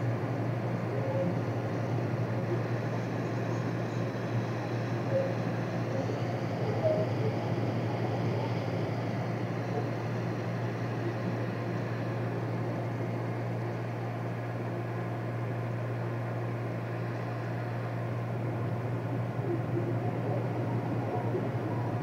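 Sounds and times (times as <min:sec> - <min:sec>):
ferry engines droning: 0:00.0 - 0:22.0.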